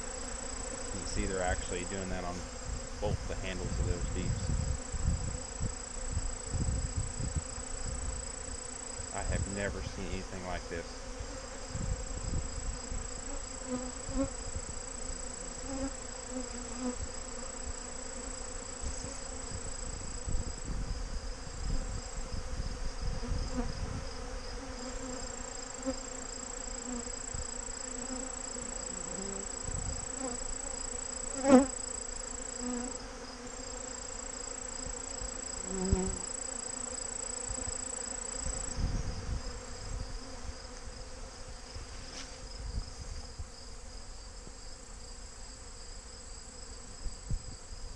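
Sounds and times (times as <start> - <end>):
single bee droning past: 0.0 - 47.9
swarm of bees buzzing: 0.0 - 47.9.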